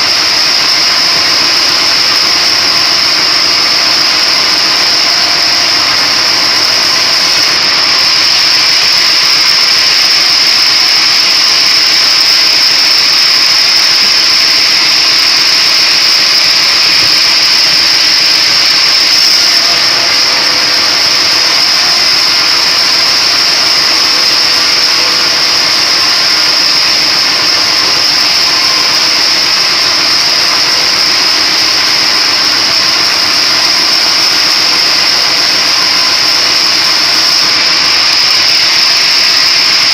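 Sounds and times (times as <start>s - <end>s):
high-pitched machine whine: 0.0s - 39.9s.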